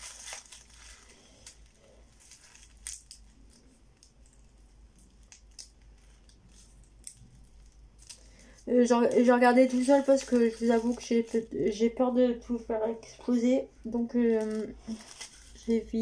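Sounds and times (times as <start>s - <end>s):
light clicks and rustles of packaging: 0.0s - 11.6s, 14.2s - 16.0s.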